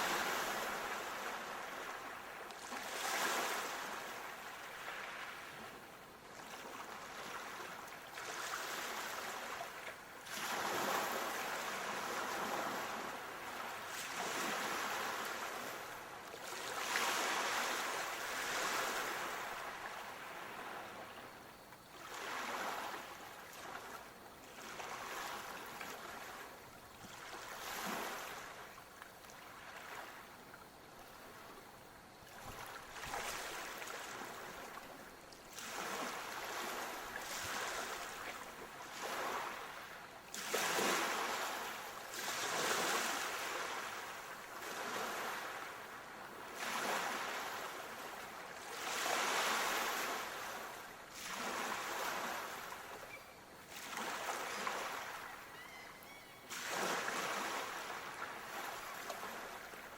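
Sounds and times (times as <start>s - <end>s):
small waves washing: 0.0s - 59.9s.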